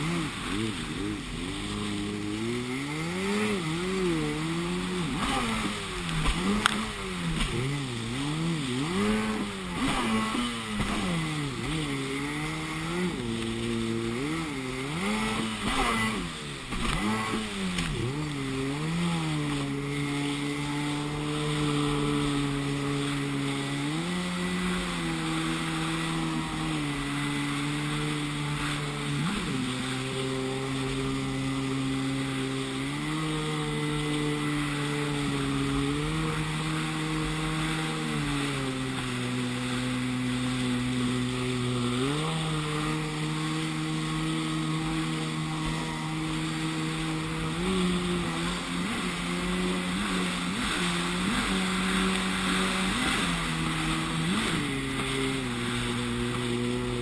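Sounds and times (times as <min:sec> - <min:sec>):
hiss of wind and water: 0:00.0 - 0:57.0
jet ski engine revving: 0:00.0 - 0:57.0.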